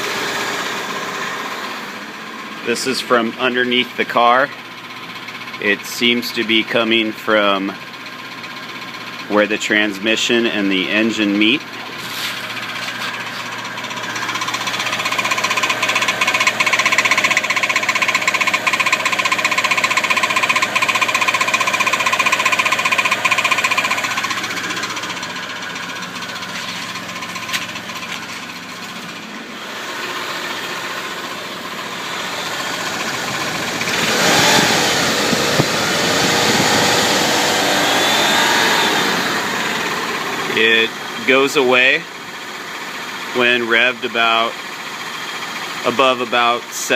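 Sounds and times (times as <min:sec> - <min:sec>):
car engine idling: 0:00.0 - 0:46.9
engine ticking: 0:00.0 - 0:46.9.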